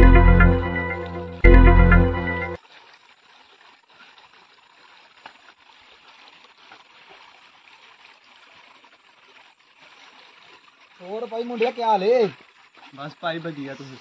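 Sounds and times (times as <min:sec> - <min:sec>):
stream flowing over stones: 0:02.6 - 0:14.0.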